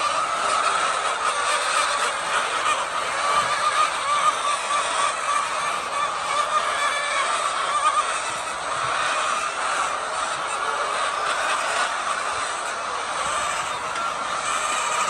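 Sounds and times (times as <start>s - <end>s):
flock of chickens clucking: 0.0s - 15.0s.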